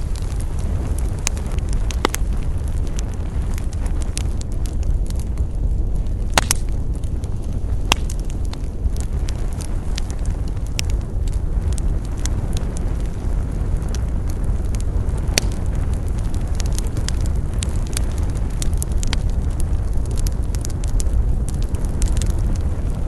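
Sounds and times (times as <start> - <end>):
campfire crackles and pops: 0.0 - 23.0
low rumble of flames: 0.0 - 23.0.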